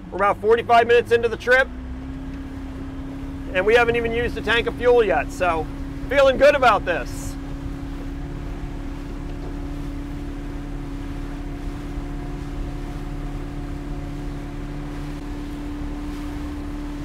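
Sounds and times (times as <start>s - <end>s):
motorboat engine humming: 0.0s - 17.0s
water rushing past boat: 0.0s - 17.0s.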